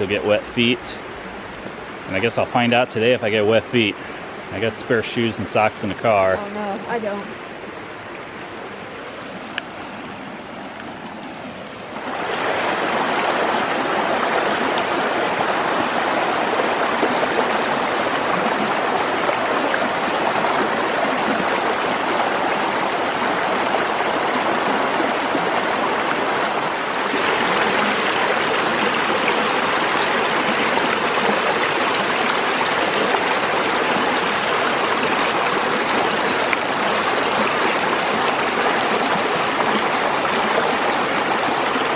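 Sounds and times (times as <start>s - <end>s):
creek rushing: 0.0s - 41.9s.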